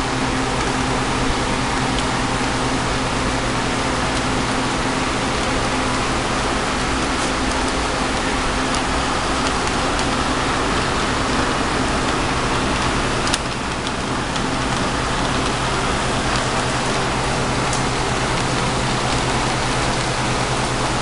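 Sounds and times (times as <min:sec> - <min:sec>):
model train rumbling on track: 0:00.0 - 0:21.0.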